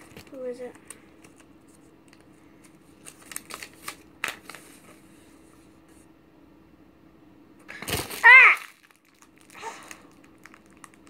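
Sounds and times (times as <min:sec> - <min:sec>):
faint packaging rustling: 0:00.0 - 0:05.8, 0:07.7 - 0:11.0
steady low hum: 0:00.0 - 0:11.0.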